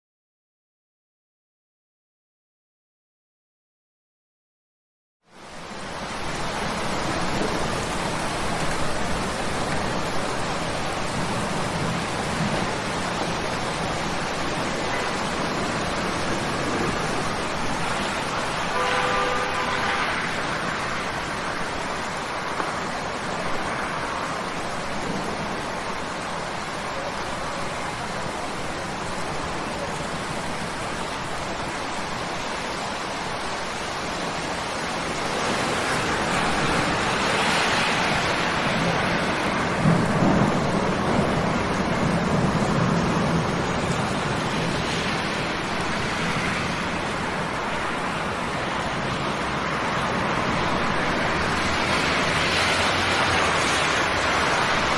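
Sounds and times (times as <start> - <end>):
rain hissing on water: 5.3 - 54.9.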